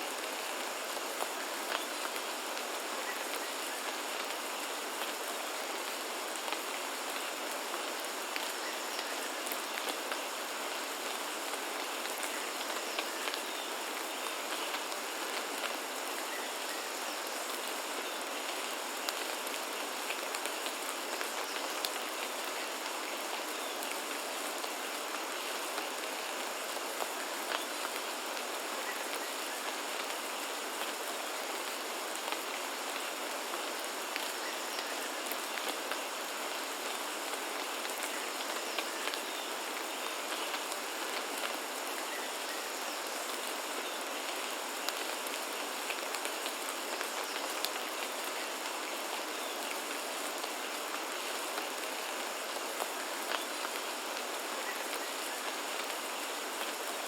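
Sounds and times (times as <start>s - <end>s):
rain drops ticking: 0.1s - 57.0s.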